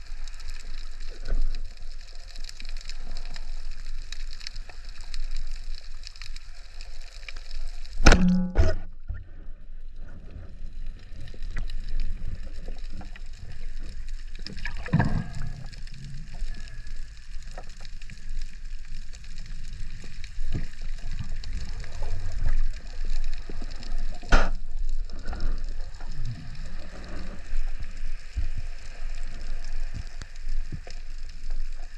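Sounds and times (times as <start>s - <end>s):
faint crackling: 0.0s - 31.9s
underwater water noise: 0.0s - 31.9s.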